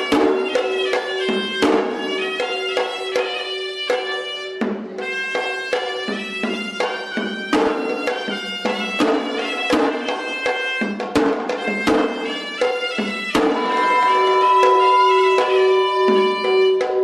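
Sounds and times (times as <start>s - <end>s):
drums struck: 0.0s - 3.4s, 4.6s - 17.0s
reed pipe melody: 0.0s - 17.0s.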